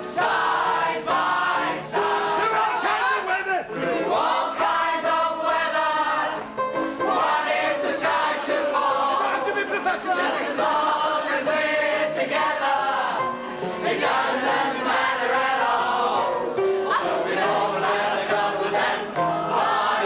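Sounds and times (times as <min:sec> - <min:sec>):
group singing in chorus: 0:00.0 - 0:20.0
upright piano: 0:00.0 - 0:20.0.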